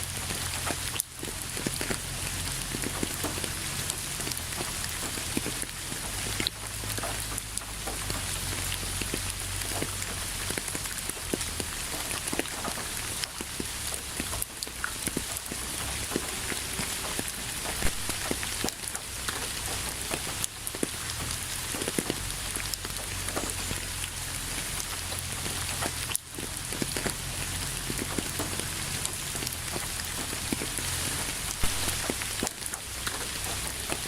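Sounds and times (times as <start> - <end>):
raindrops striking close by: 0.0 - 34.0
steady rain falling: 0.0 - 34.0.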